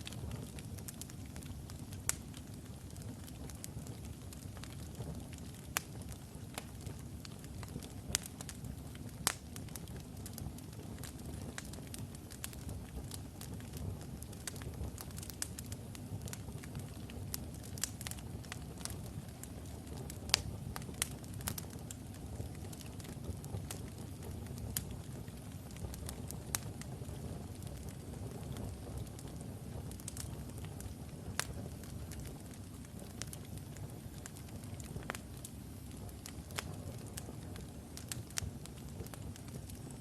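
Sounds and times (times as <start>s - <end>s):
fire rumbling: 0.0s - 40.0s
wood crackling and popping: 0.0s - 40.0s.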